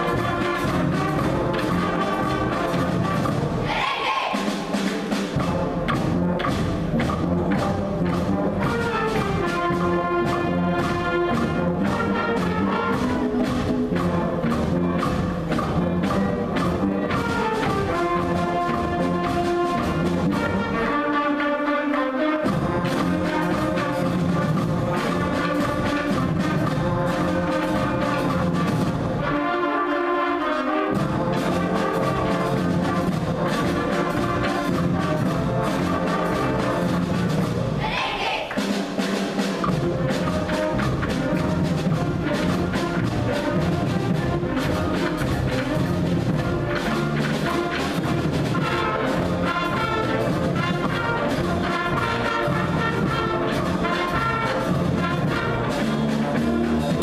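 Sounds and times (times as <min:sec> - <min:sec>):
steady percussion beat: 0:00.0 - 0:21.2, 0:22.4 - 0:29.5, 0:30.8 - 0:57.0
symphonic band playing: 0:00.0 - 0:57.0.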